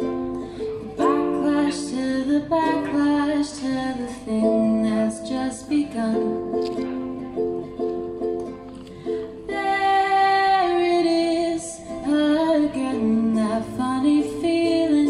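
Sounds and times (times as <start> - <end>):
woman singing: 0.0 - 7.4, 9.3 - 15.0
strummed ukulele: 0.0 - 15.0.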